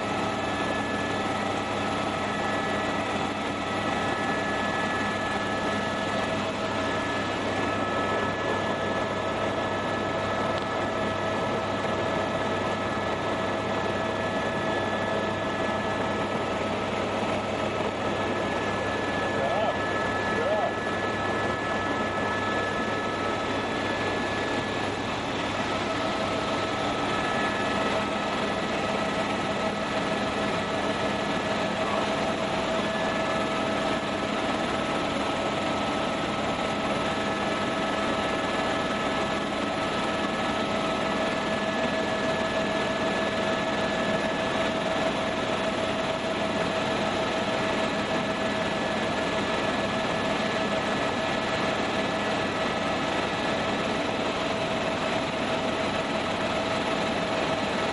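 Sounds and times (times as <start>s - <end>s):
helicopter engine and rotor: 0.0s - 57.9s
steady whining tones: 0.0s - 57.9s.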